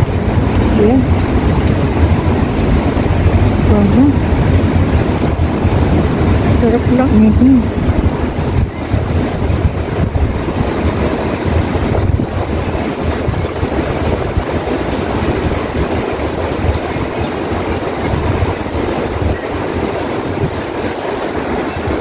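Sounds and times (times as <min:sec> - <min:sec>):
water flowing in fountain: 0:00.0 - 0:22.0
wind buffeting microphone: 0:00.0 - 0:22.0.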